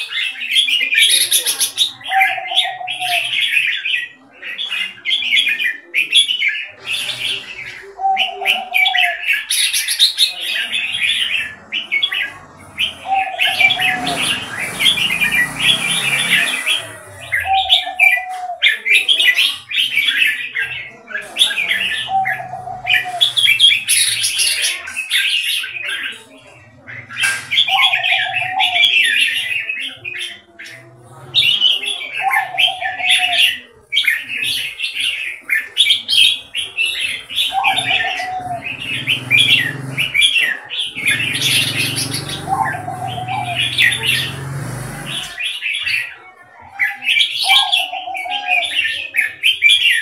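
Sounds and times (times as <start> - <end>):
birds singing rapid chirps: 0.0 - 50.0.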